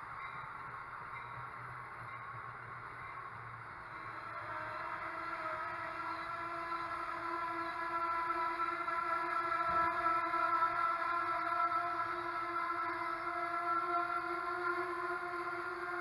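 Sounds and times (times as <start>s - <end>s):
electric train whine: 0.0s - 16.0s.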